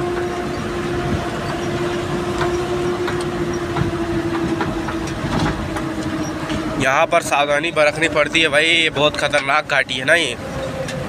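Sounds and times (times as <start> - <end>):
road rumble: 0.0 - 11.0
truck engine whine: 0.0 - 11.0.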